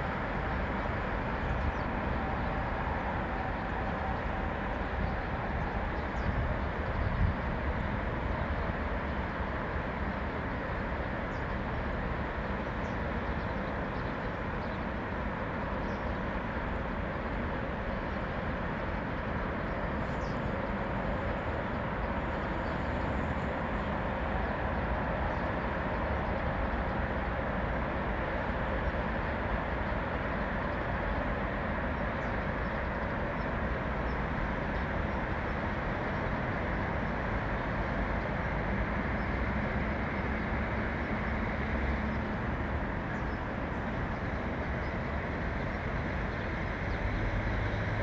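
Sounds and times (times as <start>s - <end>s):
distant road traffic rumble: 0.0s - 48.0s.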